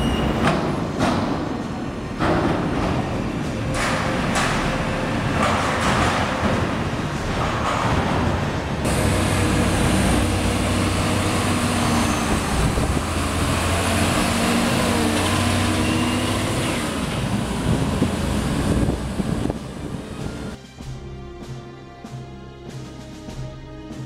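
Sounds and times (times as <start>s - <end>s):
diesel engine droning: 0.0s - 20.6s.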